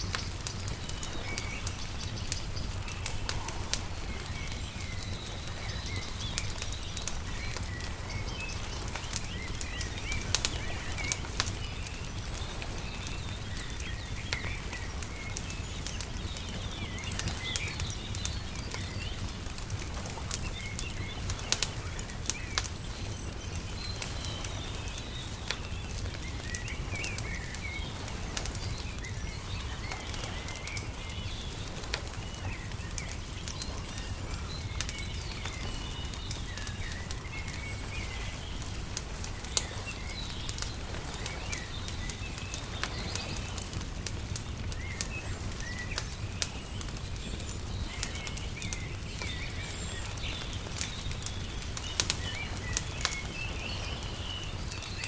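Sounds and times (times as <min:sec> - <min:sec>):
small birds chirping: 0:00.0 - 0:55.0
wood fire crackling and popping: 0:00.0 - 0:55.0.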